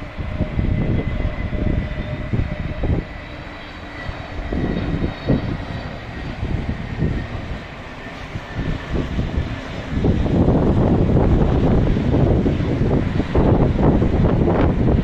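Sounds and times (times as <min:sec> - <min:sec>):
jet engines rumbling with whine: 0:00.0 - 0:15.0
wind buffeting microphone: 0:00.0 - 0:15.0.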